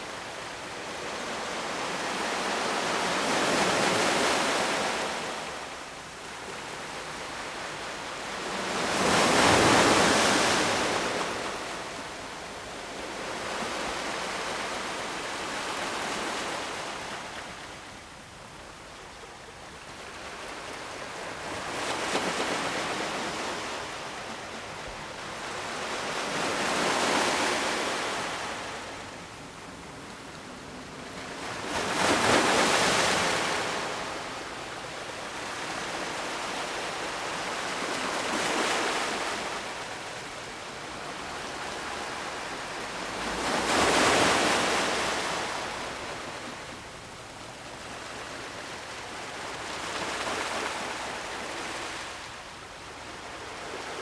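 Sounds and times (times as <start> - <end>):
ocean waves breaking on shore: 6.5 - 17.7, 20.0 - 54.0.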